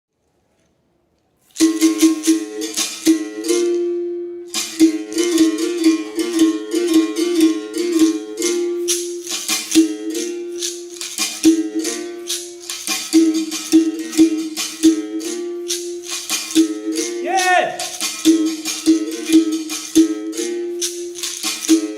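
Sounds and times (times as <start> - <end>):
berimbau playing: 1.6 - 21.9.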